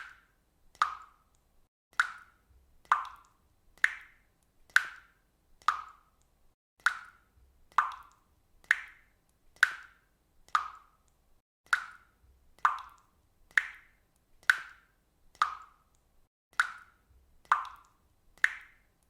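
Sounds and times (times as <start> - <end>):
water dripping: 0.0 - 19.0.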